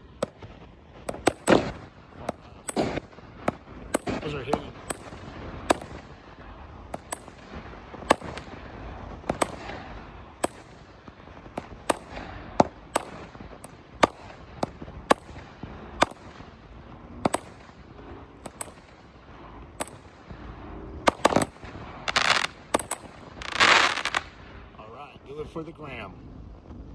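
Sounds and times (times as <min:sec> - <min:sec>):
firework bangs: 0:00.0 - 0:26.9
firework hissing: 0:00.0 - 0:26.9.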